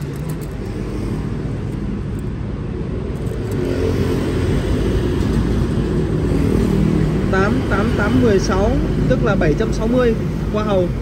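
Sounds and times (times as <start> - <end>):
passing motor traffic: 0.0 - 11.0.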